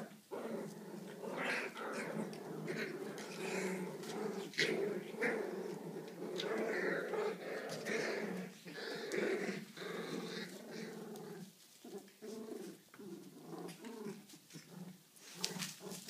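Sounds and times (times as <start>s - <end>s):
puppies growling in play: 0.0s - 16.0s.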